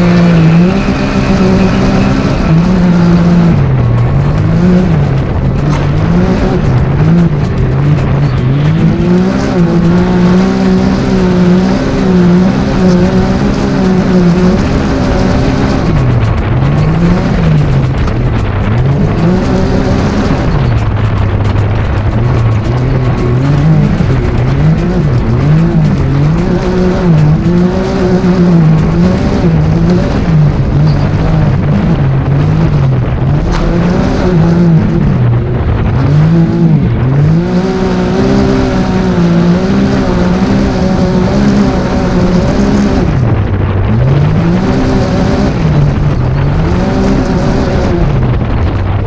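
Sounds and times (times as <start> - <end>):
engine revving: 0.0 - 49.0.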